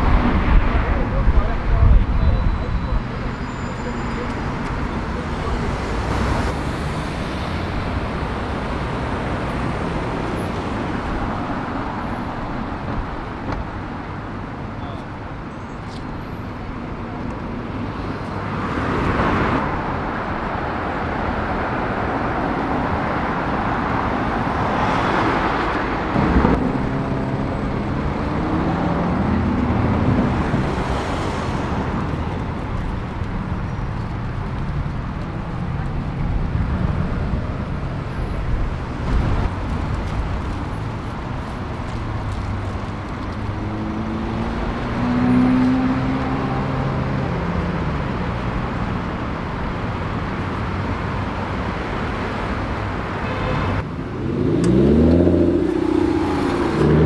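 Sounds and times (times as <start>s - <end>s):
passing cars and buses: 0.0s - 57.0s.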